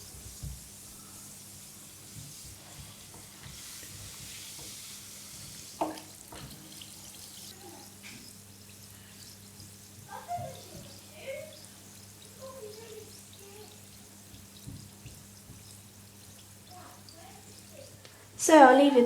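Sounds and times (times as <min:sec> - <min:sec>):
bath bomb fizzing: 0:00.0 - 0:18.4.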